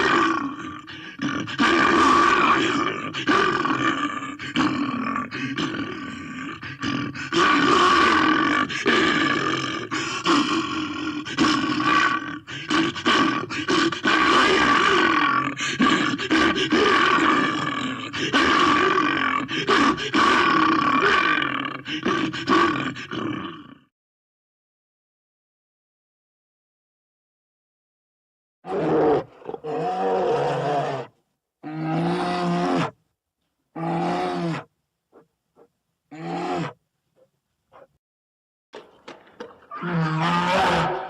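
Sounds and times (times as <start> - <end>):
bear growling and roaring: 0.0 - 23.9, 28.6 - 33.0, 33.7 - 37.9, 39.6 - 41.0.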